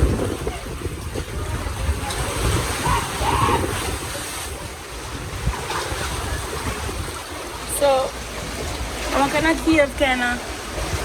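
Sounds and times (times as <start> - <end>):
ocean waves washing on shore: 0.0 - 11.0
wind buffeting microphone: 0.0 - 11.0.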